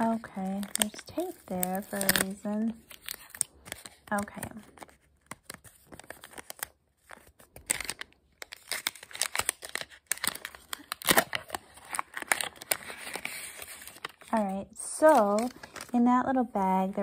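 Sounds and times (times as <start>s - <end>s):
paper rustling: 0.0s - 16.0s
plastic packet crinkling: 0.0s - 16.0s.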